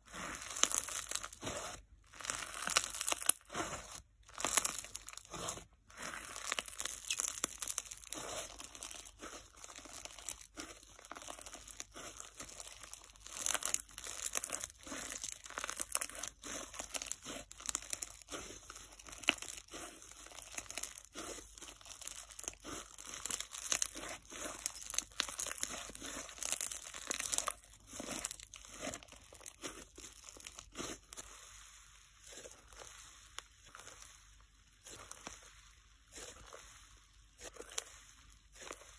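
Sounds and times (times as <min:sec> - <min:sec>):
slime crunchy crackle and fizz: 0:00.0 - 0:38.9.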